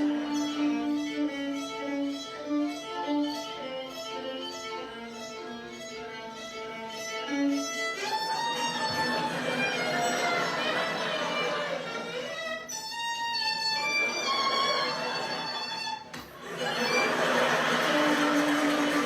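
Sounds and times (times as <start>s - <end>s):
violin melody: 0.0s - 19.0s.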